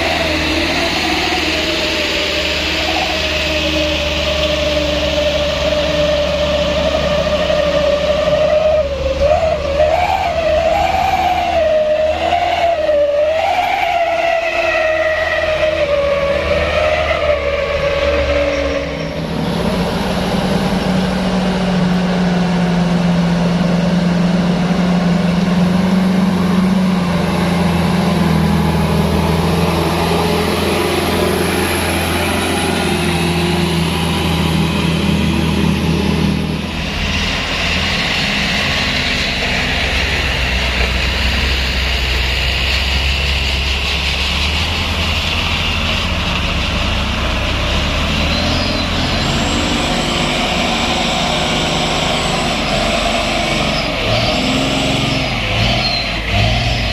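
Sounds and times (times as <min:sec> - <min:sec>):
truck engine running: 0:00.0 - 0:56.9.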